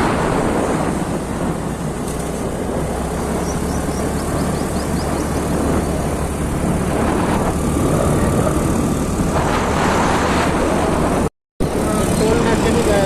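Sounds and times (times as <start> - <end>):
motorcycle riding: 0.0 - 13.0
wind noise on microphone: 0.0 - 13.0.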